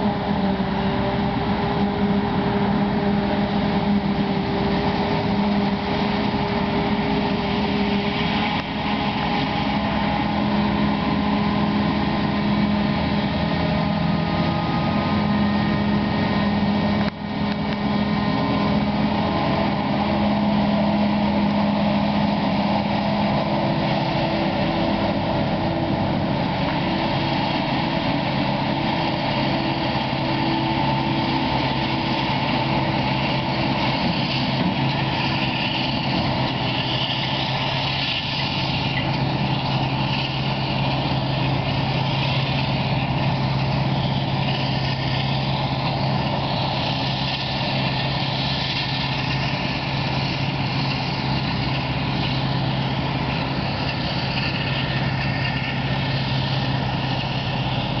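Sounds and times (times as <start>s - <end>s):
forage harvester droning: 0.0s - 58.0s
tractor engines running: 0.0s - 58.0s.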